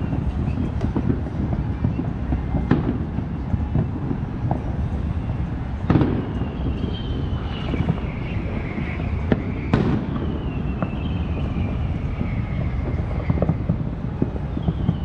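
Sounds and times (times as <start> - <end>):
distant firework bangs: 0.0 - 15.0.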